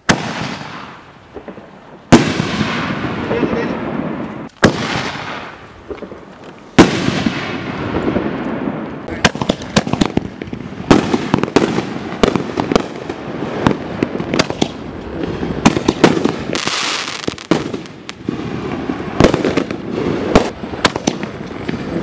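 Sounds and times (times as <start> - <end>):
firework hiss: 0.0 - 22.0.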